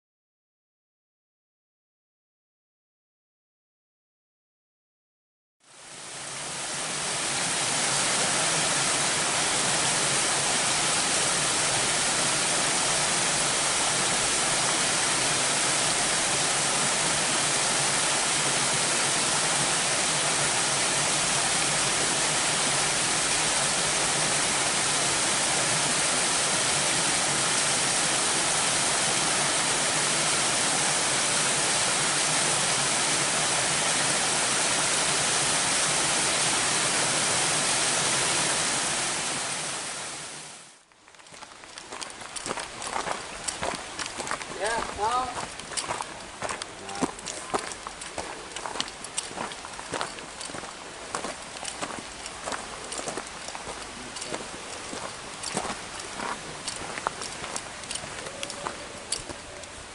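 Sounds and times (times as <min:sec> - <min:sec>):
waterfall rushing into pool: 0:05.7 - 0:59.9.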